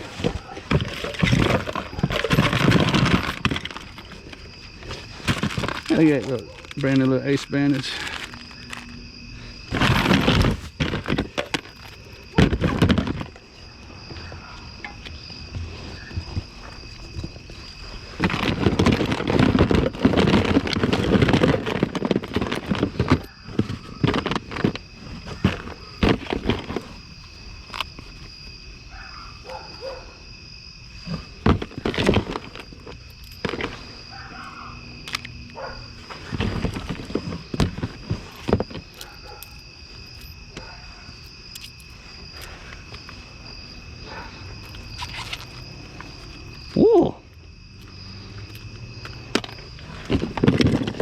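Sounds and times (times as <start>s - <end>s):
trash rustling and clattering: 0.0s - 30.0s, 30.9s - 46.8s, 47.8s - 51.0s
night insects trilling: 0.0s - 51.0s.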